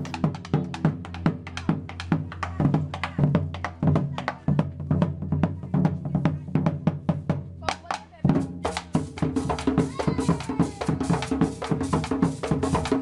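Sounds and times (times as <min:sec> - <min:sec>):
fast drum and percussion beat: 0:00.0 - 0:13.0.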